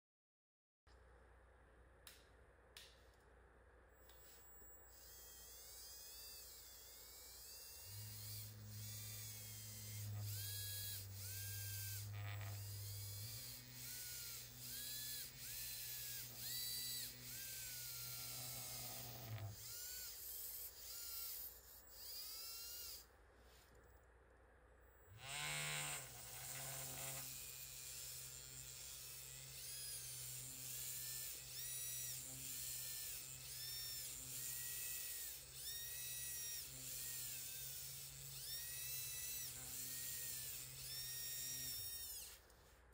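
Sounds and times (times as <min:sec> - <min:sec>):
small motor humming: 0:04.0 - 0:23.9, 0:24.8 - 0:42.8.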